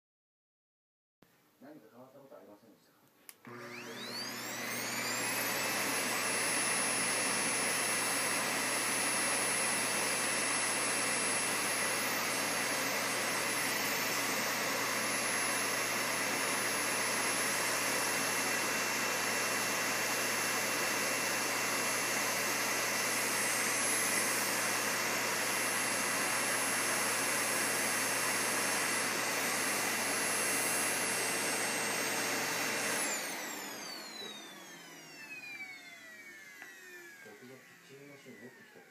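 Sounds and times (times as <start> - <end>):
vacuum cleaner motor whining: 3.4 - 38.9.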